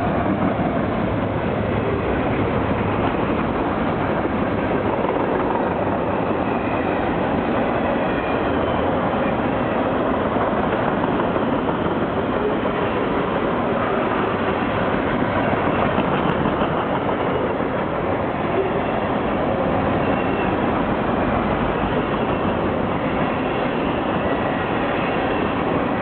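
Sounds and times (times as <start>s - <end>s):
freight train wheels rolling on rail: 0.0s - 26.0s.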